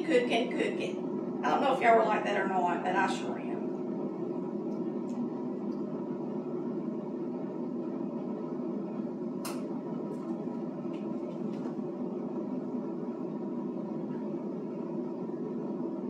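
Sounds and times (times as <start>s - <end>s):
air fryer fan whirring: 0.0s - 16.0s.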